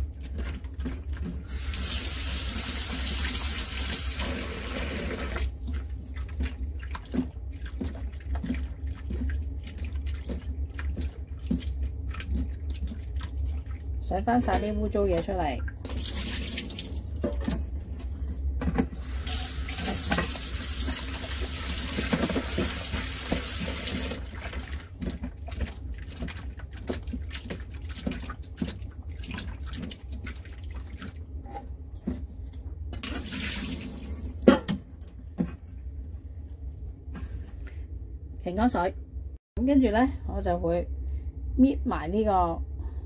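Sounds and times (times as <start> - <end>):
water sloshing in metal bowl: 0.0 - 36.0.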